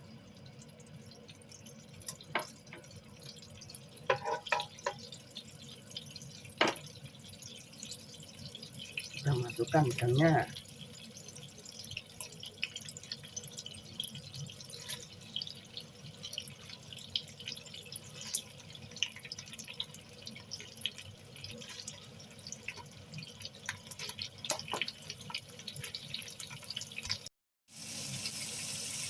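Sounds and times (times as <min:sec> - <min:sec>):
shrimp sizzling in butter: 0:00.0 - 0:29.0.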